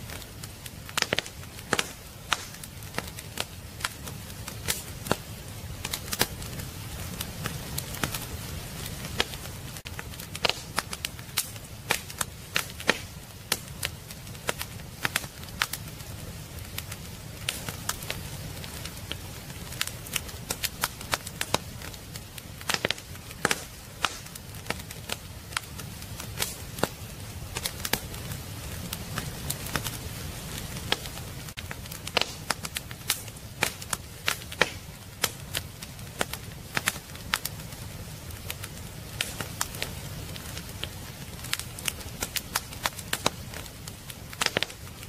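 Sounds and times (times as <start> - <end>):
firewood crackling and popping: 0.0 - 45.0
low rumble of flames: 0.0 - 45.0.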